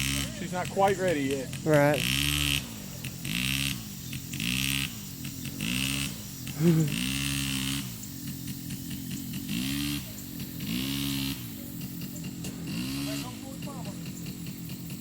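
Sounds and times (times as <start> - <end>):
small atv engine revving: 0.0 - 15.0.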